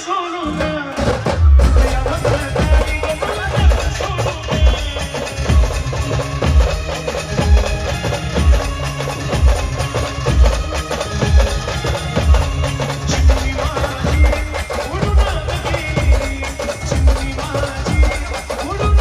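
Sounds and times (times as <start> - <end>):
heavy drum beat: 0.4 - 19.0
brass band melody: 0.5 - 16.7.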